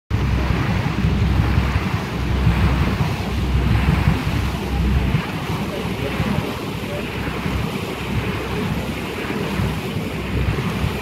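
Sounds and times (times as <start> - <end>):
water rushing: 0.1 - 11.0
wind buffeting microphone: 0.1 - 11.0.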